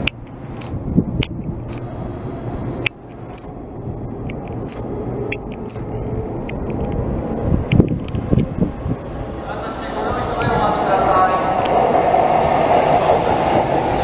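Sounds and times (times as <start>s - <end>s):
sharp train clicks: 0.0s - 8.6s, 9.3s - 14.0s
electric train low rumble: 0.0s - 14.0s.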